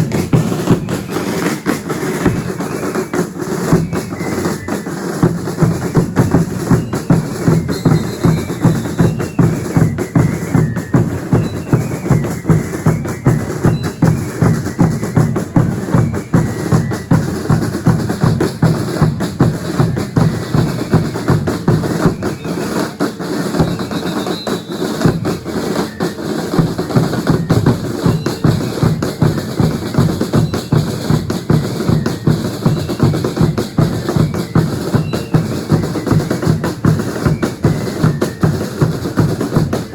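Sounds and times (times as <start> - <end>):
drums beating fast rhythm: 0.0 - 39.9.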